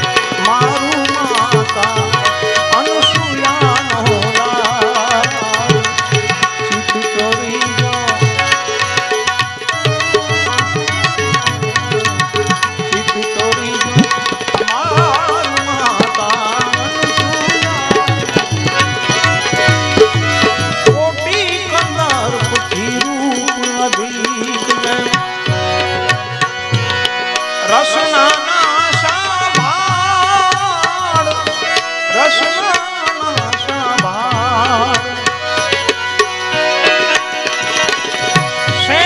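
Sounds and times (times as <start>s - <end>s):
hand drum rhythm: 0.0s - 27.5s, 28.9s - 39.0s
harmonium chords: 0.0s - 39.0s
man singing devotional melody: 0.0s - 39.0s.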